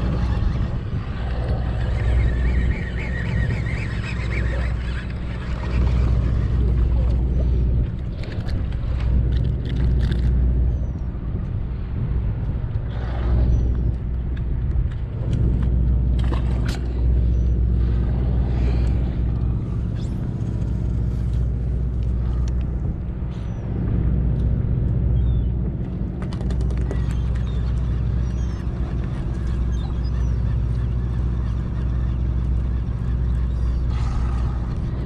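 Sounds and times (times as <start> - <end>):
boat engine droning: 0.0 - 35.0
water noise: 0.0 - 35.0
wind: 0.0 - 35.0.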